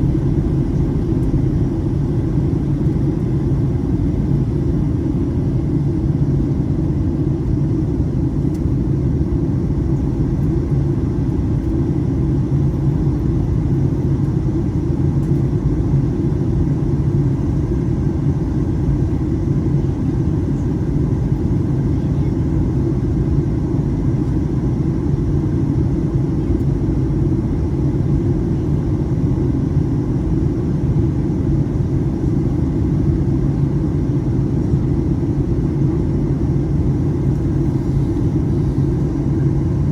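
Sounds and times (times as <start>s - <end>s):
jet cabin engine rumble: 0.0s - 39.9s.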